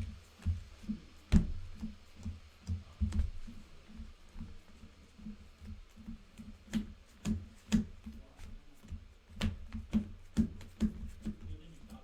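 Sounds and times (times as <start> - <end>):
low pulsing room hum: 0.0 - 12.0
playing cards tapping and shuffling: 0.0 - 12.0.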